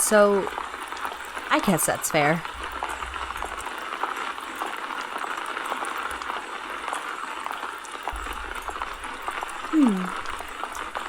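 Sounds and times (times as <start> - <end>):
raindrop ticks: 0.0 - 11.0
steady rain falling: 0.0 - 11.0.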